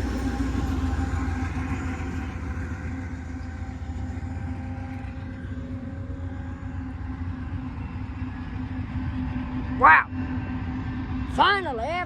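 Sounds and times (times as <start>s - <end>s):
diesel locomotive engine droning: 0.0s - 12.0s
low rumble of train: 0.0s - 12.0s.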